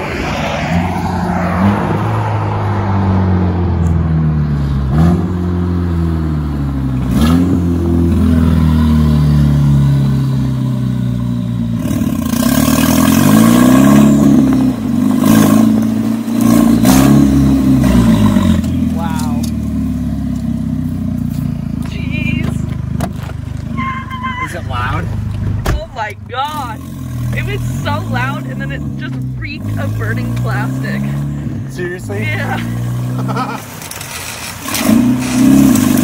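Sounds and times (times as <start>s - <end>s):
loud car engine accelerating: 0.0s - 23.8s, 26.4s - 36.0s.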